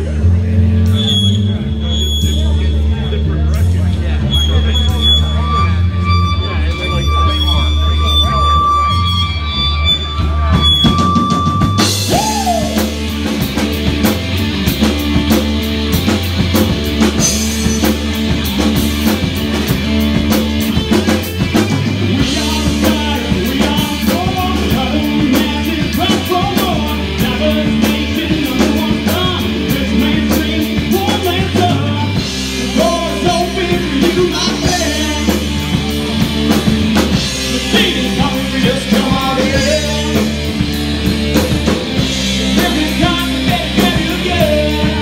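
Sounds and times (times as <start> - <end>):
driving drums: 0.0 - 45.0
live rock band: 0.0 - 45.0.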